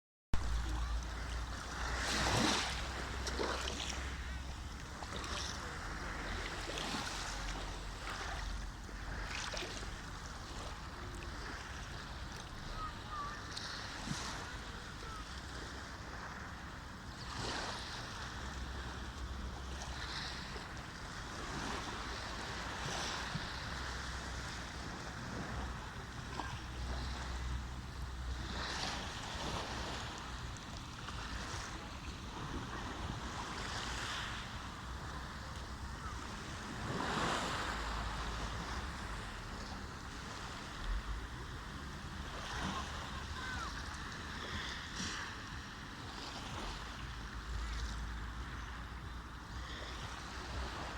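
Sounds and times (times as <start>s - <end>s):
sea waves washing in: 0.4s - 50.9s.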